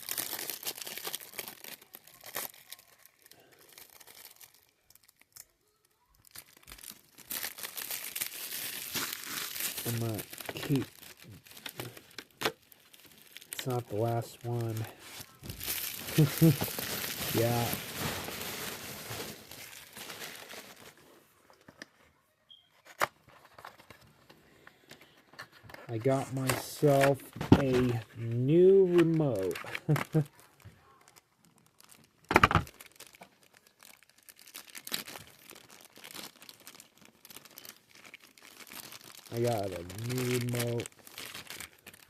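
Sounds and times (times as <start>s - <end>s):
packaging crinkling and tearing: 0.0s - 21.9s, 22.8s - 42.0s.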